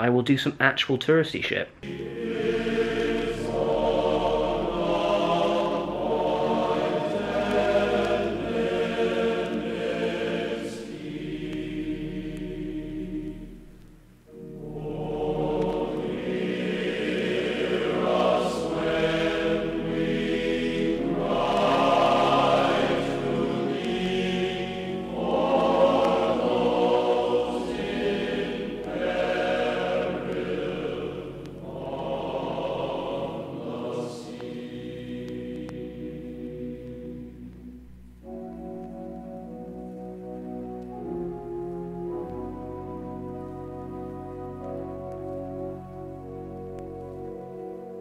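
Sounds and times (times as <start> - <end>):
choir singing held chords: 1.8 - 48.0.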